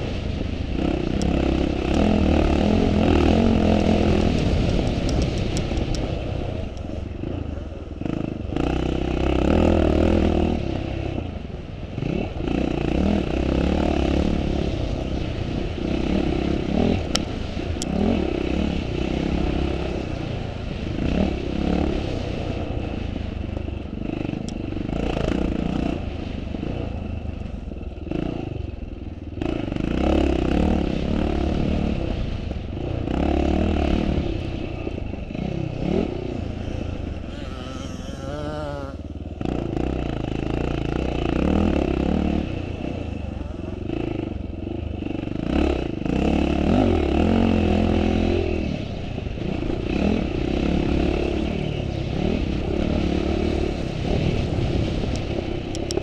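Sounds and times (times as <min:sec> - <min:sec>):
motocross motorcycle engines revving: 0:00.0 - 0:56.0.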